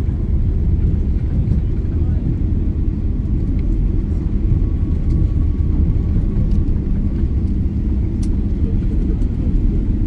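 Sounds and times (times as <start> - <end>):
aircraft cabin rumble: 0.0 - 10.0.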